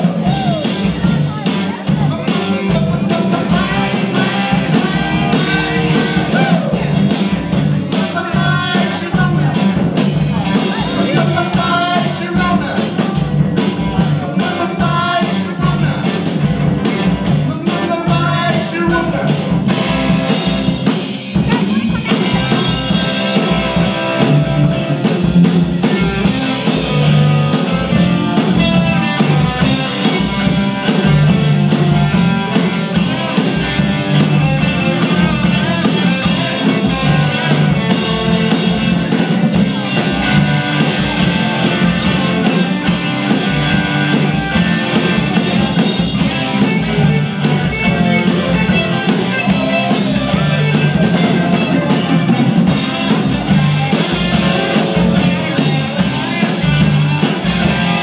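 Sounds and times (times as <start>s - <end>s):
drum kit beat: 0.0s - 58.0s
live rock band playing: 0.0s - 58.0s.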